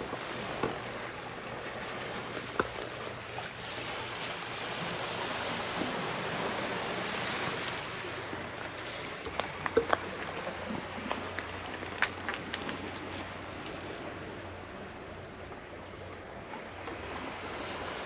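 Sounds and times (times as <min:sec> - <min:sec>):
sea waves washing ashore: 0:00.0 - 0:18.0.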